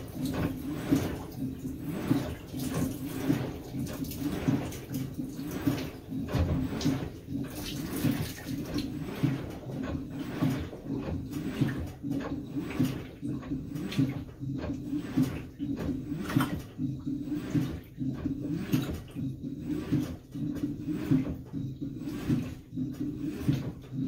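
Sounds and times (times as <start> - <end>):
low machine hum: 0.0 - 24.0
water sloshing in washer tub: 0.0 - 24.0.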